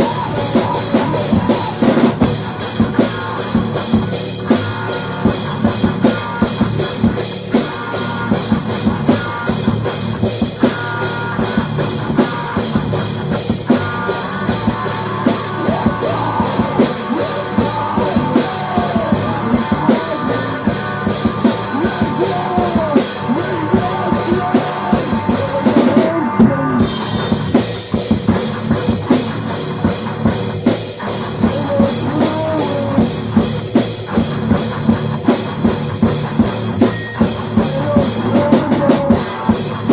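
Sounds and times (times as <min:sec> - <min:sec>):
drum kit beat: 0:00.0 - 0:39.9
lead guitar line with bending notes: 0:00.0 - 0:39.9
rock band playing: 0:00.0 - 0:39.9.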